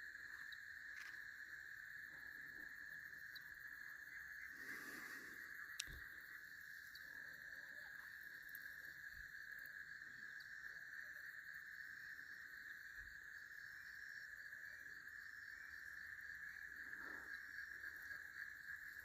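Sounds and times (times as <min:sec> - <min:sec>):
insects droning: 0:00.0 - 0:19.0
pulsing insect chirp: 0:00.0 - 0:19.0.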